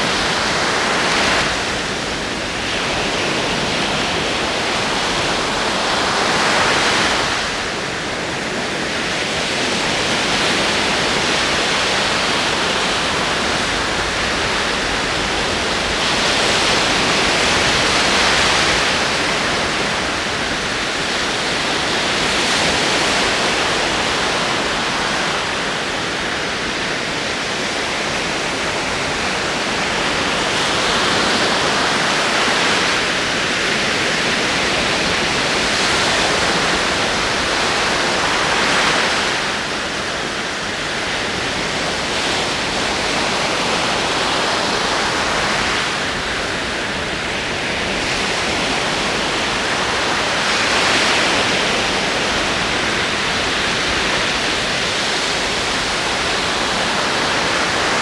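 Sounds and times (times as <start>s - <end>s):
ocean waves on shore: 0.0s - 58.0s.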